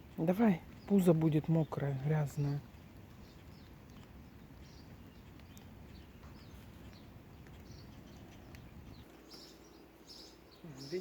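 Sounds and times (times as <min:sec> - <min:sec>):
faint bird chirps: 0:00.7 - 0:11.0.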